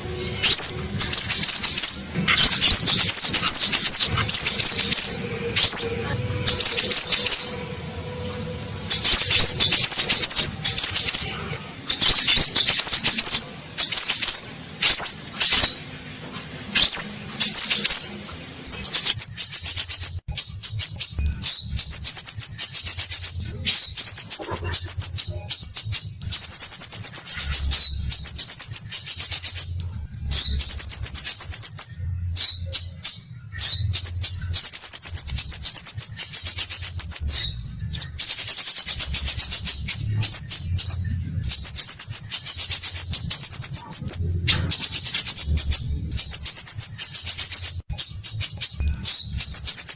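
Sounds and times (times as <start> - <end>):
bird chirping rapid notes: 0.0 - 16.0, 16.7 - 49.9.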